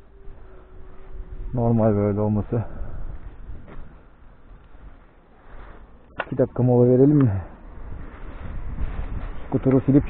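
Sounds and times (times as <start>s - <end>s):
low rumbling wind: 0.0s - 10.0s.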